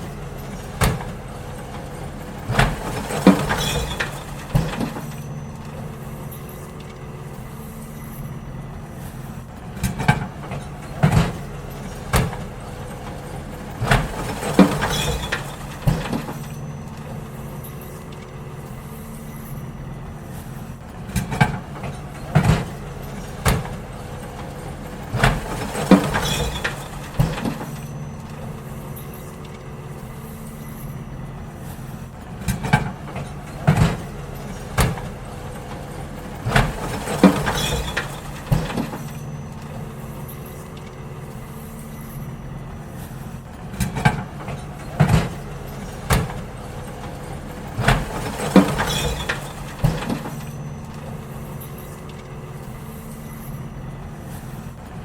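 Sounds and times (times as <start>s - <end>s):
bins banging and clattering: 0.0s - 55.0s
garbage truck engine running: 0.0s - 55.0s.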